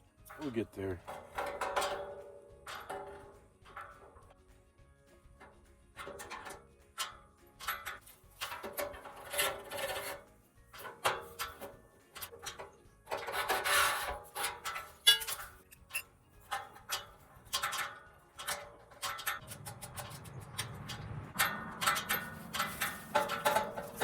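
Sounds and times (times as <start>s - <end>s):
metal pipe scraping: 0.2s - 4.4s, 6.0s - 24.0s
metal clicks and knocks: 0.3s - 4.4s, 5.4s - 24.0s.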